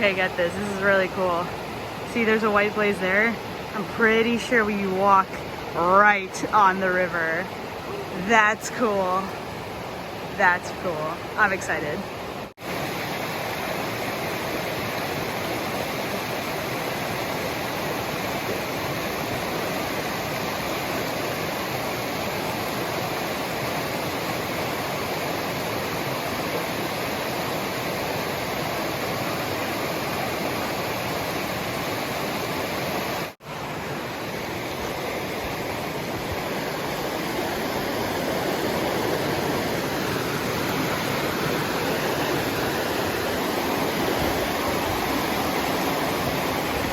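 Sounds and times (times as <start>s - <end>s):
waterfall and rapids roaring: 0.0s - 46.9s.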